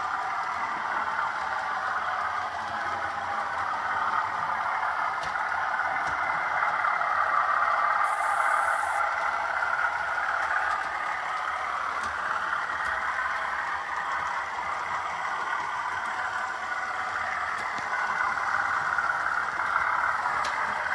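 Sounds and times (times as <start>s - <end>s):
model train motor whirring: 0.0s - 20.9s.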